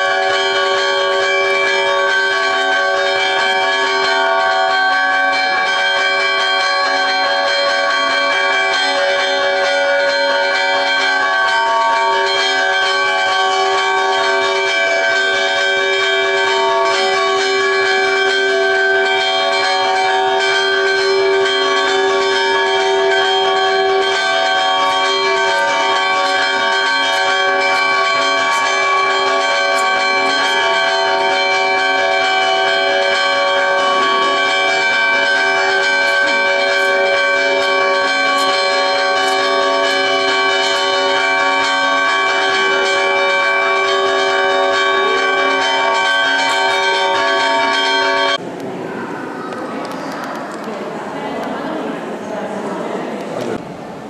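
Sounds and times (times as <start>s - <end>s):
church bells ringing: 0.0s - 53.6s.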